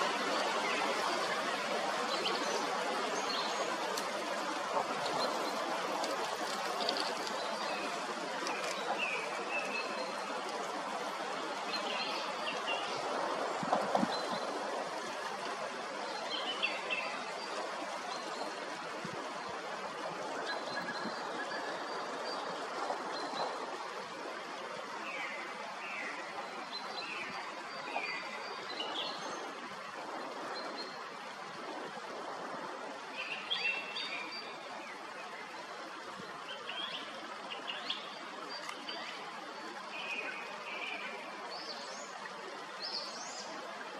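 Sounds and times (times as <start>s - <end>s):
forest stream rushing: 0.0s - 43.9s.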